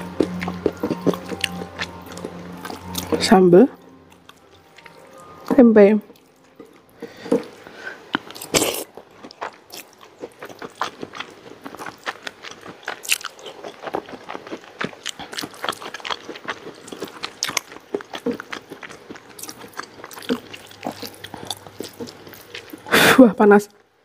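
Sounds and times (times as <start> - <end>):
person chewing and crunching: 0.0 - 23.0.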